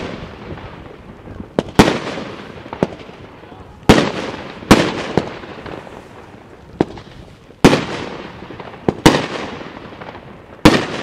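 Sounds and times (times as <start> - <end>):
fireworks bangs echoing: 0.0 - 11.0
fireworks small cracks: 0.0 - 11.0.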